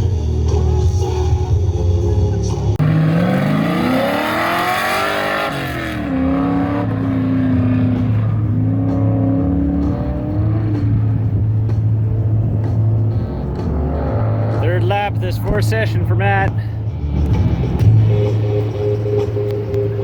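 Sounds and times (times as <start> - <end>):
truck engine accelerating hard: 0.0 - 20.0.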